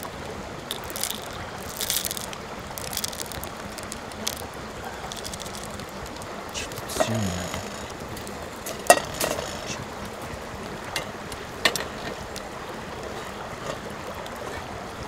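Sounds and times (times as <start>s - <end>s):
fire crackling pops: 0.0s - 14.6s
campfire hissing: 0.0s - 15.0s.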